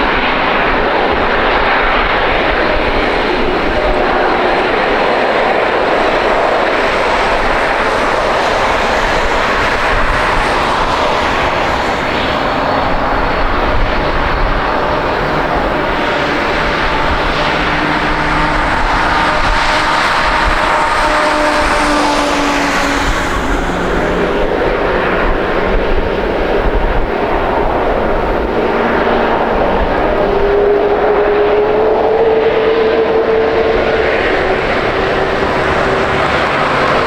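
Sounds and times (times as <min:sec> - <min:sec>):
faint engine whine: 0:00.0 - 0:37.0
jet engines roaring: 0:00.0 - 0:37.0.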